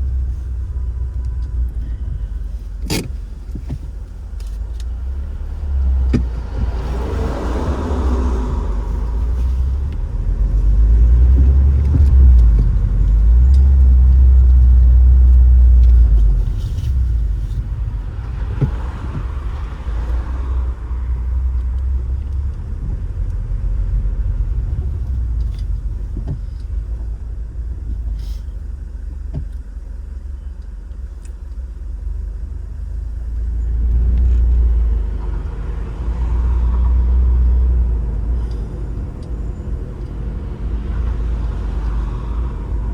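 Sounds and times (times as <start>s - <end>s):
car engine and road noise: 0.0s - 42.9s.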